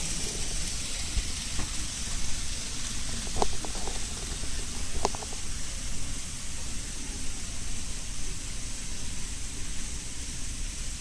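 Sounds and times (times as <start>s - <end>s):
model train rumbling: 0.0s - 11.0s
steady hiss: 0.0s - 11.0s.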